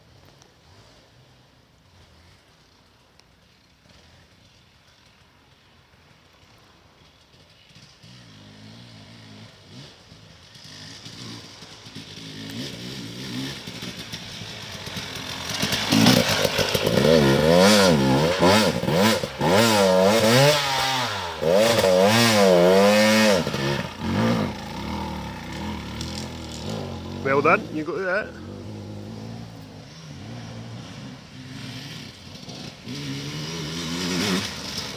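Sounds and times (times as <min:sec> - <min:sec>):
motorcycle engine revving: 0:06.2 - 0:34.9.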